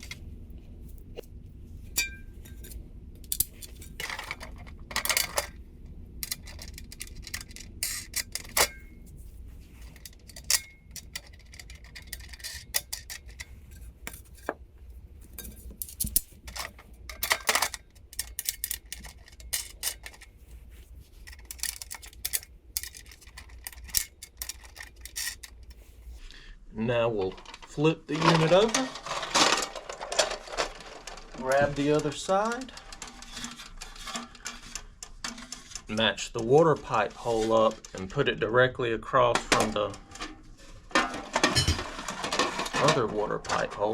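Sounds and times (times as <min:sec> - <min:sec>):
hardware clinking and rattling: 0:00.0 - 0:26.3, 0:27.2 - 0:38.5, 0:39.3 - 0:43.9
parts knocking together: 0:02.0 - 0:05.6, 0:06.2 - 0:09.0, 0:09.8 - 0:14.6, 0:15.4 - 0:20.3, 0:21.2 - 0:26.0, 0:27.2 - 0:38.4, 0:39.4 - 0:43.9.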